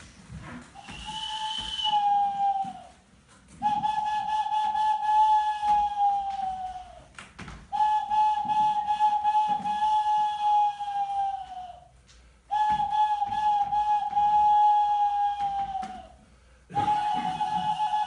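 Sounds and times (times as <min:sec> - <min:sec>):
small wind instrument long notes: 0:00.8 - 0:07.0, 0:07.7 - 0:11.9, 0:12.5 - 0:18.0.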